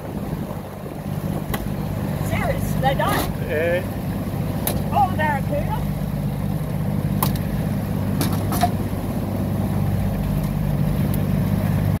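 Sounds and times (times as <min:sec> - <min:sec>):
boat engine running: 0:00.0 - 0:12.0
water rushing along hull: 0:00.0 - 0:12.0.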